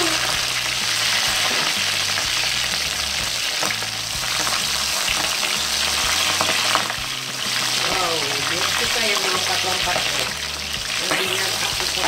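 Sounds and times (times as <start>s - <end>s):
oil popping: 0.0s - 12.0s
shrimp sizzling in hot oil: 0.0s - 12.0s.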